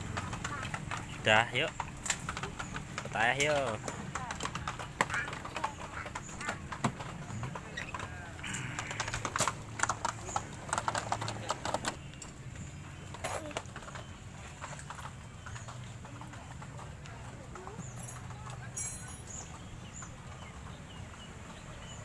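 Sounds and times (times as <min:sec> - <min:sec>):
sharp clicks and clatters: 0:00.0 - 0:22.0.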